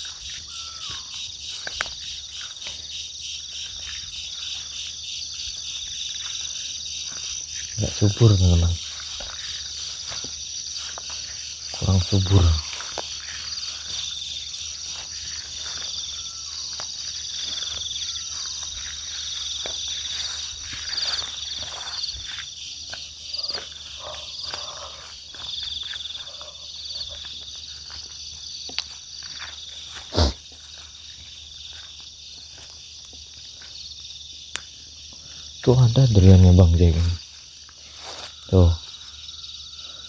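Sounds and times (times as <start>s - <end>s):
footsteps through undergrowth: 0.0s - 40.0s
insects chirring: 0.0s - 40.0s.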